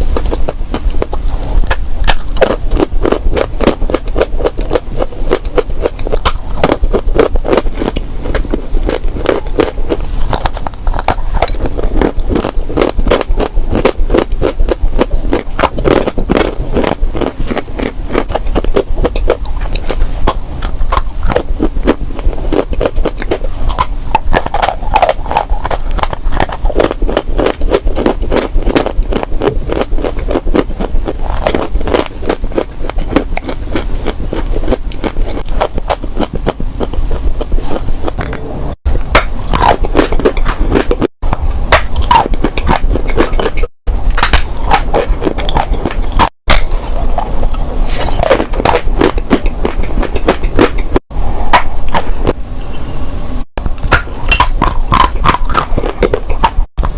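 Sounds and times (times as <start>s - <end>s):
crisp crunching chewing: 0.0s - 38.4s, 39.2s - 52.4s, 53.6s - 56.9s.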